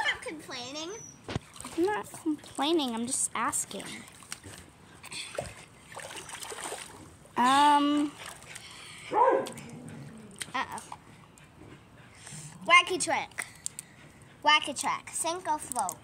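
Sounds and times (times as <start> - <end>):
pool water splashing and dripping: 0.0 - 16.0.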